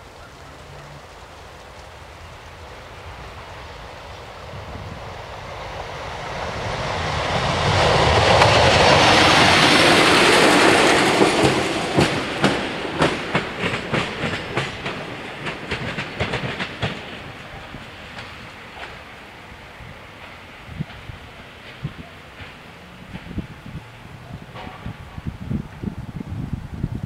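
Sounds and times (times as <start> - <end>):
wheels clicking over rail joints: 0.0 - 26.0
passing train rush: 0.0 - 27.0.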